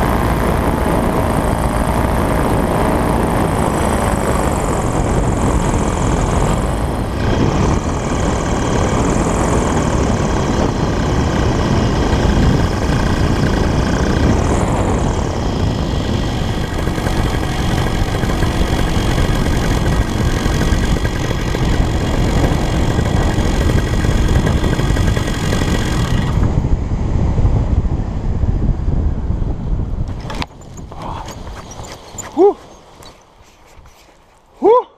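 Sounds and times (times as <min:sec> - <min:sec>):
wind rushing on microphone: 0:00.0 - 0:34.7
paramotor engine and propeller: 0:00.0 - 0:34.8.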